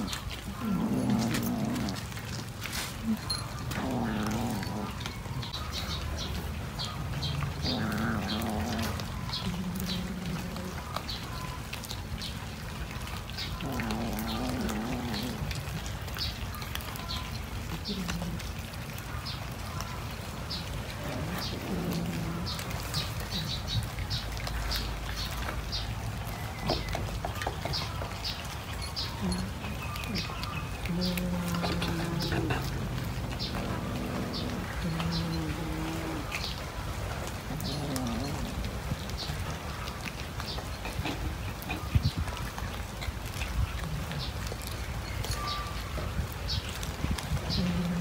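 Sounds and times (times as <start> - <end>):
cat chewing wetly: 0.0 - 48.0.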